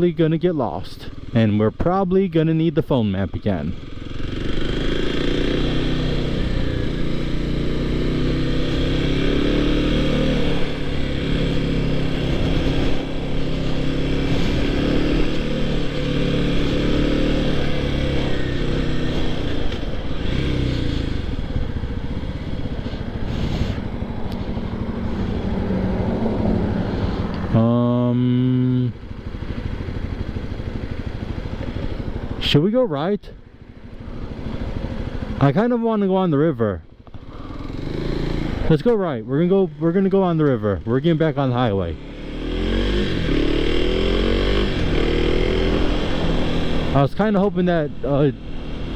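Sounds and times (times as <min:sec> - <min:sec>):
motorcycle engine revving: 0:00.0 - 0:32.7, 0:33.3 - 0:48.9.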